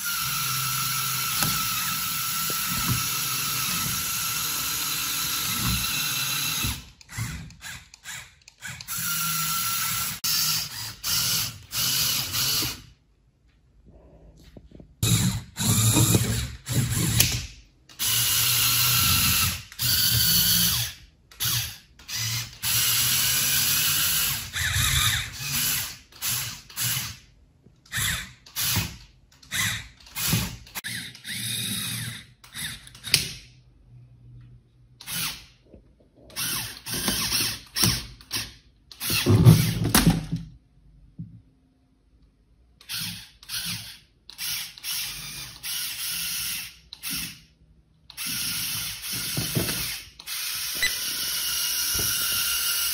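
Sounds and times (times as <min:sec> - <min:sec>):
small electric motors driving gears: 0:00.0 - 0:12.8, 0:15.0 - 0:27.2, 0:27.9 - 0:33.2, 0:36.3 - 0:39.8, 0:42.8 - 0:47.5, 0:48.1 - 0:52.9.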